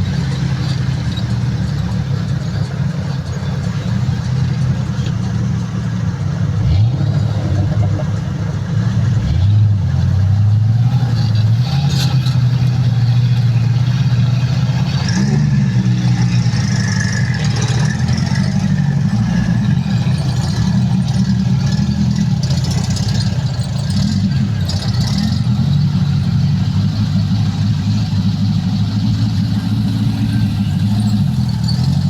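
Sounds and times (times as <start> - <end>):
off-road vehicle engine accelerating: 0.0 - 32.0.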